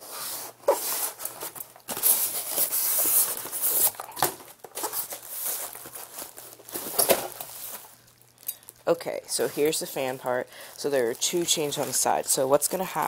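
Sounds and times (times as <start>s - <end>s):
rustling and crinkling handling: 0.0s - 13.0s.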